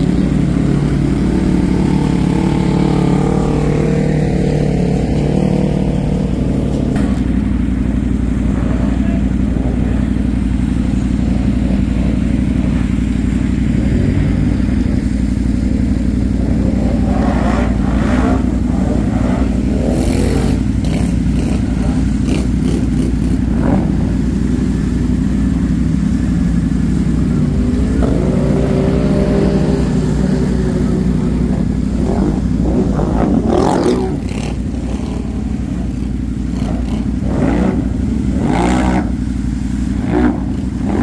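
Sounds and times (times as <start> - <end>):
atv engine running: 0.0 - 41.0.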